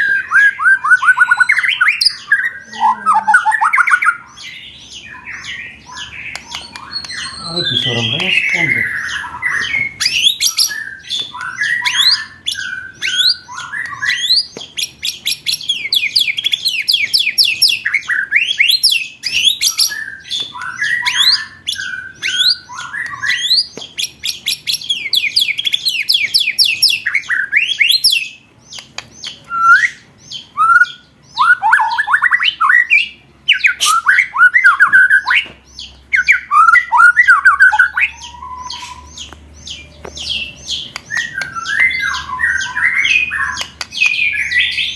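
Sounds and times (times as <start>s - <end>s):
recorded songbird song: 0.0s - 44.9s.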